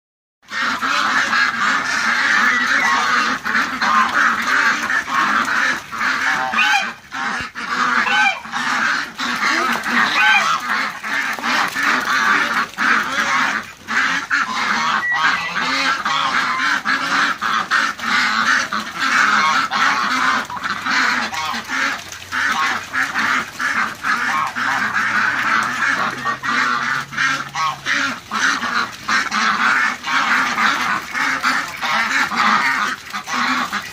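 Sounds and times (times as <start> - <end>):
flock of ducks quacking: 0.5 - 33.9.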